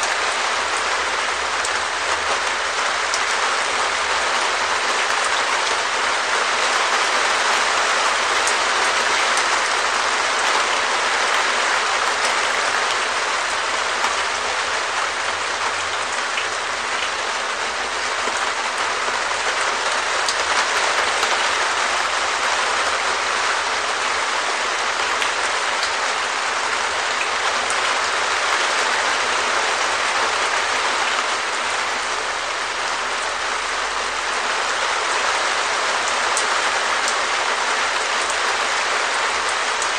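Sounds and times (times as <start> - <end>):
rain on plastic roof: 0.0 - 39.9.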